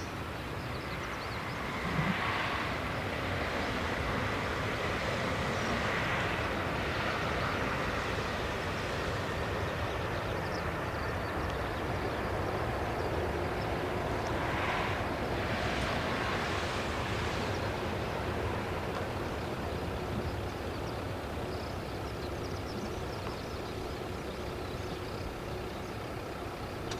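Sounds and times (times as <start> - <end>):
jet engines rushing: 0.0 - 26.9.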